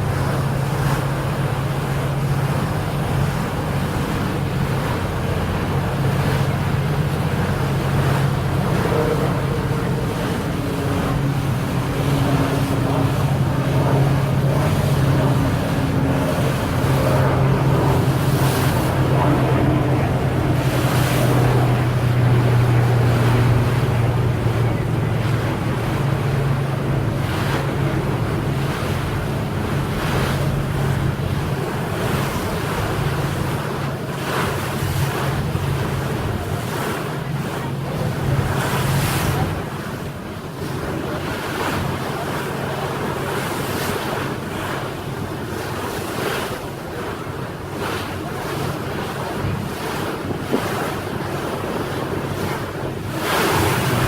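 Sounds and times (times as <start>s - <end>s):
boat engine humming: 0.0s - 54.0s
rushing water: 0.0s - 54.0s
wind buffeting microphone: 0.0s - 54.0s.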